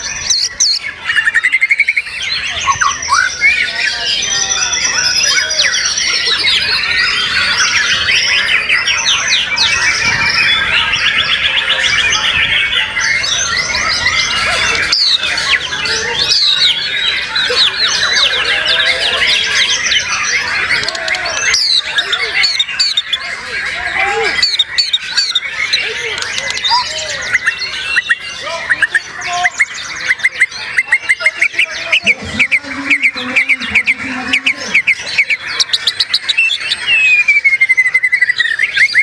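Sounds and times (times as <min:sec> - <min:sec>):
chorus of birds singing: 0:00.0 - 0:39.0.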